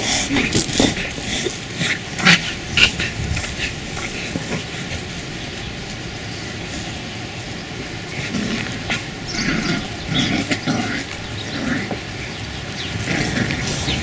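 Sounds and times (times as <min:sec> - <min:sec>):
puppies scuffling and snuffling: 0:00.0 - 0:14.0.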